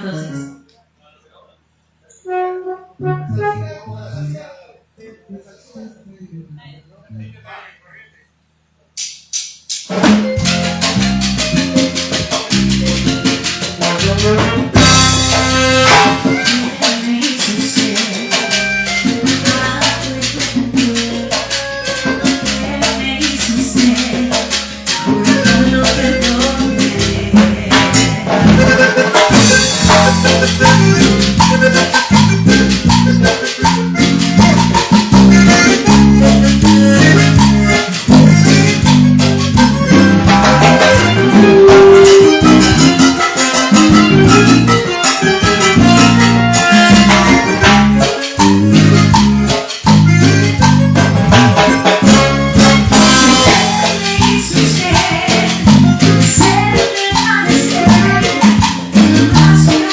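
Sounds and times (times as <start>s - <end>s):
live band playing cumbia: 2.1s - 4.3s, 8.9s - 59.9s.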